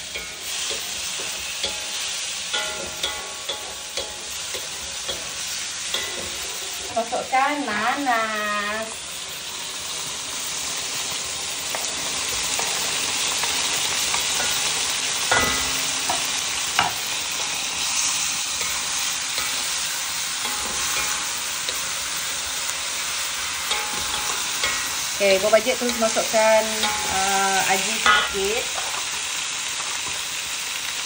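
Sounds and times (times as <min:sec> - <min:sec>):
fruit sizzling in a frying pan: 0:00.0 - 0:31.0.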